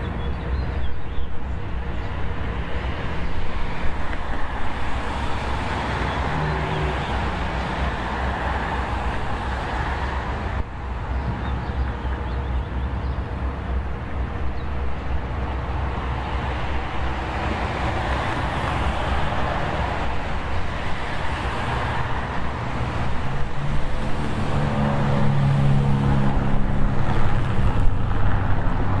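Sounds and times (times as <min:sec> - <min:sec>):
passing cars rushing: 0:00.0 - 0:29.0.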